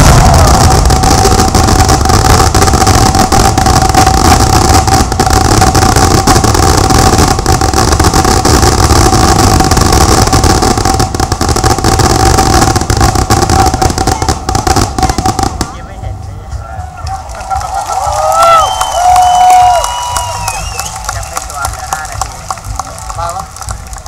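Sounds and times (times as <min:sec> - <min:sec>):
fireworks bangs and crackle: 0:00.0 - 0:24.0.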